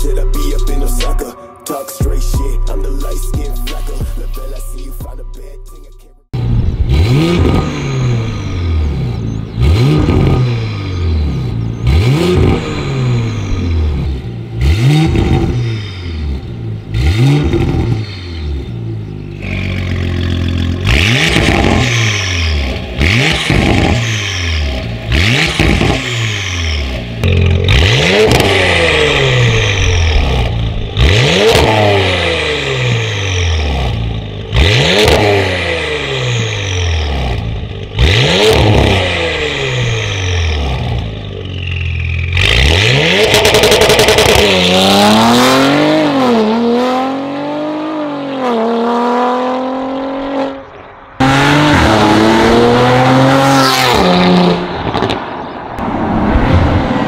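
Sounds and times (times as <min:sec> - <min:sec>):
car engine revving: 0:06.3 - 0:57.0
car accelerating hard: 0:06.4 - 0:57.0.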